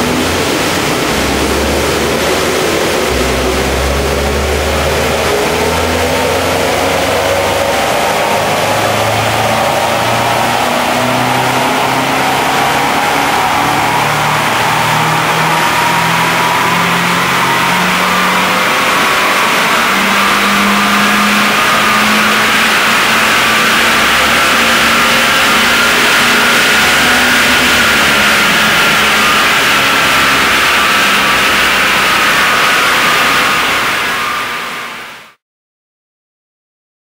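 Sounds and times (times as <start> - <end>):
car engine running on dynamometer: 0.0 - 35.4.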